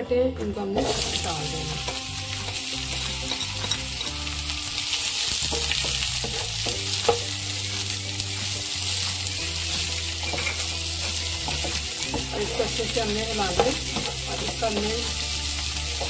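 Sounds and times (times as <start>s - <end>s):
onions sizzling in hot oil: 0.8s - 16.0s
spatula scraping pan: 0.8s - 16.0s.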